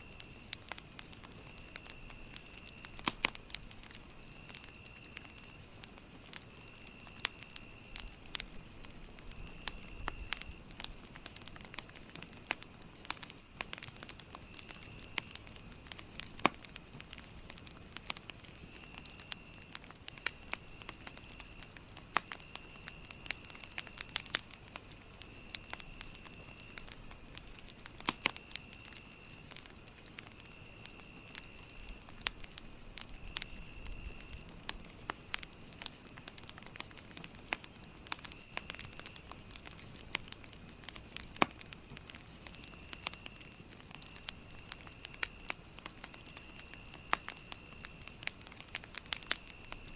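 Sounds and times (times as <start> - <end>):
campfire crackling and popping: 0.0 - 49.9
insect trills: 0.0 - 49.9
insects chirping: 0.0 - 49.9.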